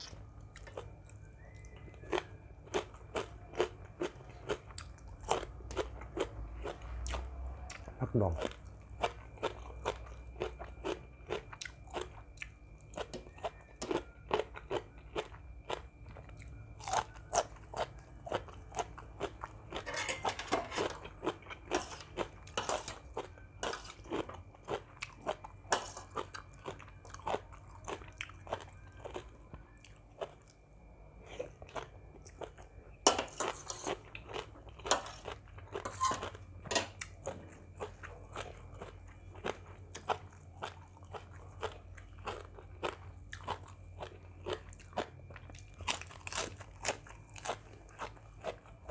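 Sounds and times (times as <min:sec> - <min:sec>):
person chewing crunchy food: 0:00.0 - 0:48.9.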